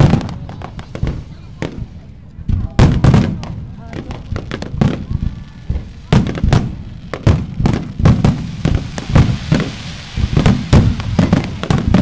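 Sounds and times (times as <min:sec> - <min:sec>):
firework booms: 0:00.0 - 0:12.0
firework crackle: 0:00.0 - 0:12.0.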